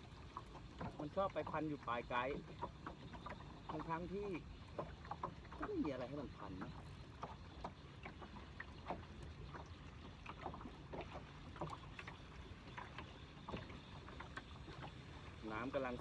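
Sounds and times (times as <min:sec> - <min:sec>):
small splashes and knocks: 0:00.0 - 0:16.0
water lapping softly: 0:00.0 - 0:16.0.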